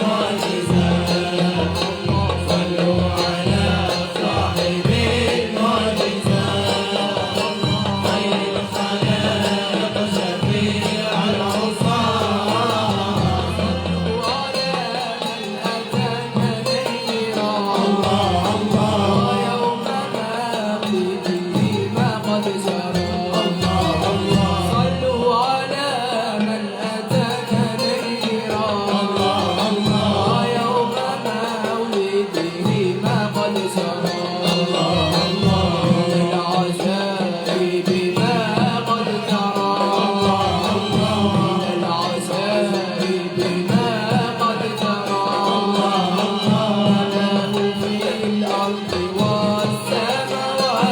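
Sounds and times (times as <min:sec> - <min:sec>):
steady percussion: 0:00.0 - 0:50.9
voices singing ornamented melody: 0:00.0 - 0:50.9.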